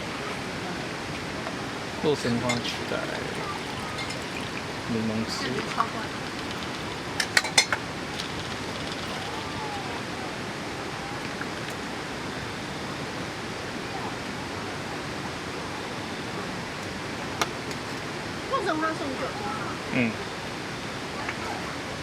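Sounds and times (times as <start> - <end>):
rushing background noise: 0.1 - 21.2.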